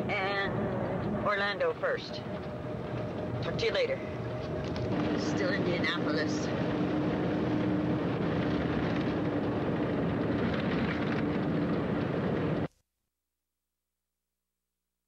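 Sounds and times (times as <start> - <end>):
truck cab road and engine noise: 0.0 - 12.7.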